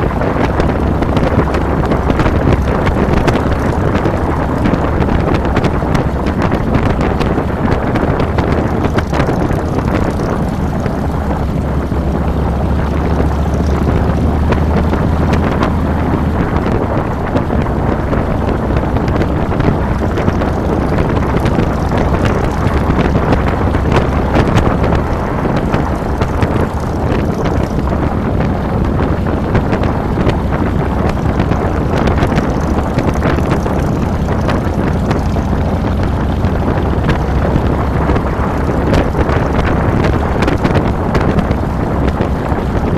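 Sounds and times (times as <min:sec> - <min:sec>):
motorcycle engine rumbling: 0:00.0 - 0:42.9
wind buffeting microphone: 0:00.0 - 0:42.9.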